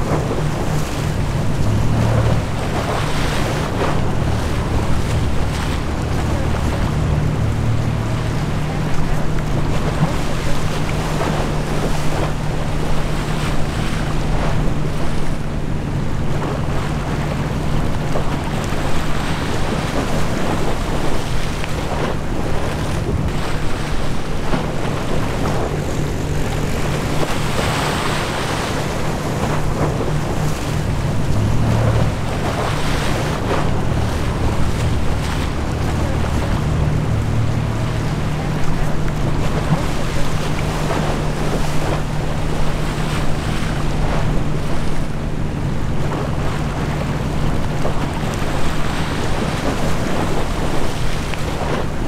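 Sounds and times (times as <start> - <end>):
ship engine drone: 0.0 - 52.0
waves washing: 0.0 - 52.0
wind on microphone: 0.0 - 52.0.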